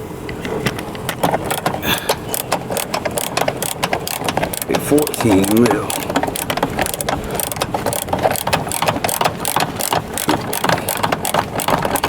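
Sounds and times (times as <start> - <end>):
socket ratchet clicking: 0.7 - 12.0.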